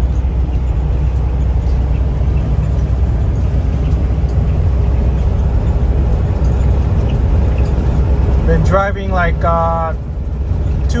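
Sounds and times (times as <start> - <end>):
engine and road noise in vehicle: 0.0 - 11.0.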